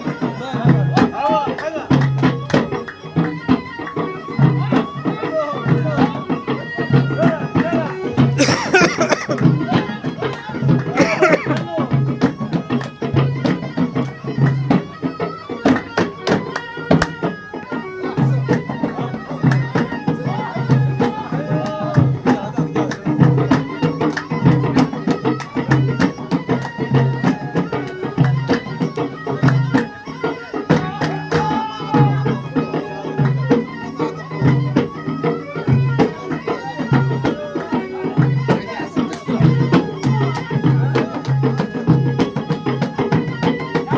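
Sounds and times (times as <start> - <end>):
folk melody: 0.0 - 43.9.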